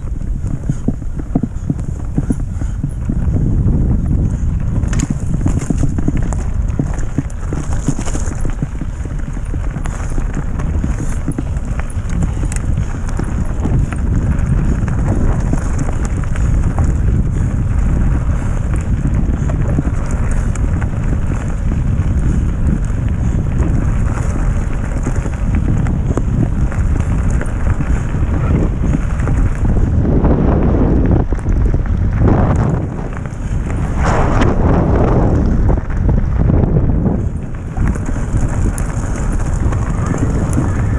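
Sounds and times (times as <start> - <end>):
bike rattling: 0.0 - 40.9
tyres rumbling on gravel: 0.0 - 40.9
wind buffeting microphone: 0.0 - 40.9.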